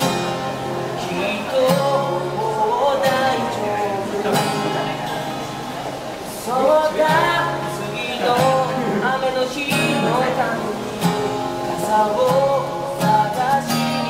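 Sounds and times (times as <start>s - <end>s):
acoustic guitar strumming: 0.0s - 14.0s
man singing: 0.9s - 5.1s, 6.3s - 14.0s.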